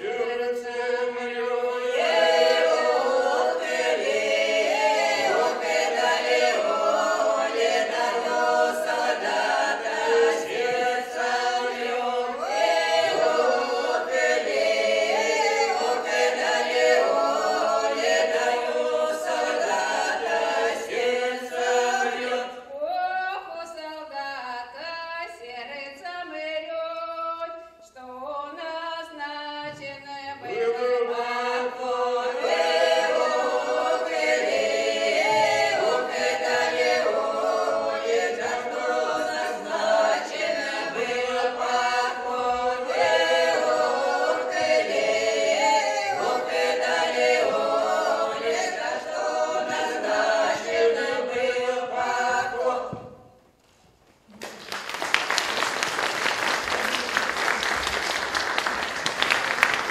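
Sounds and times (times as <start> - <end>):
group singing a cappella: 0.0 - 53.4.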